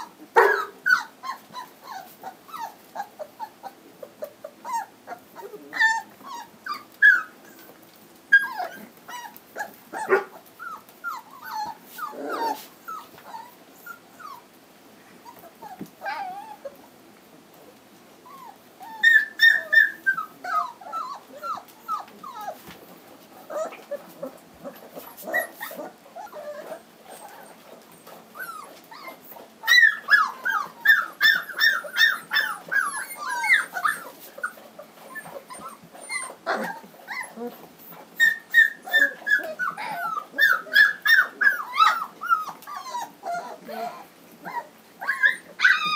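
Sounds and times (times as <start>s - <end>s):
puppies whimpering and squeaking: 0.0s - 14.5s, 15.2s - 16.9s, 18.2s - 22.8s, 23.4s - 45.9s.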